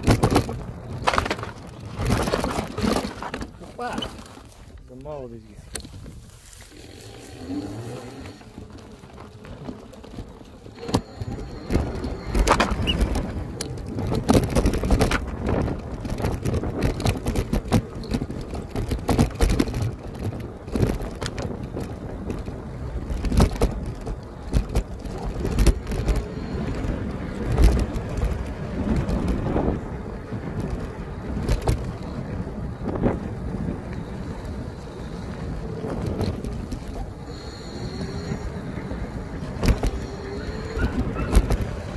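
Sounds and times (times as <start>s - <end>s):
bike knocking and rattling: 0.0s - 41.9s
wind buffeting microphone: 0.0s - 41.9s.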